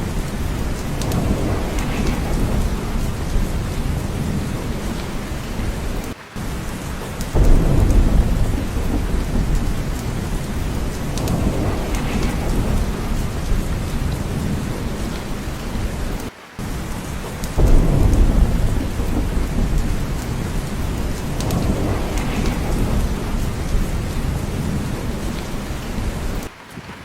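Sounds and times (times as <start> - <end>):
heavy rain: 0.0 - 27.0
thunder rumbling: 0.0 - 27.0.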